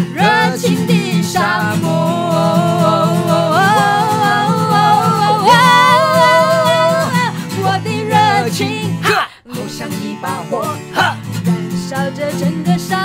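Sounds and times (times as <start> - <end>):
people singing: 0.0 - 13.0
strummed acoustic guitar: 0.0 - 13.0.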